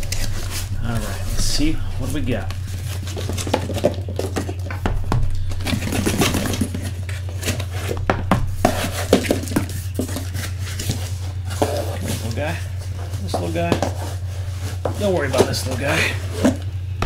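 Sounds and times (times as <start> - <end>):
low hum: 0.0 - 17.0
cardboard boxes knocking and scraping: 2.6 - 17.0.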